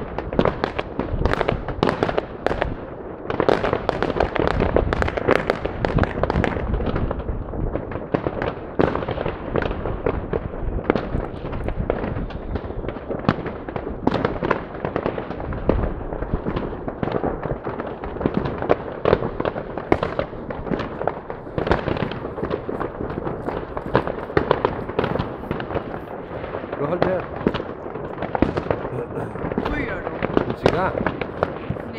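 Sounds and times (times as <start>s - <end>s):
firecrackers banging and popping: 0.0s - 31.9s.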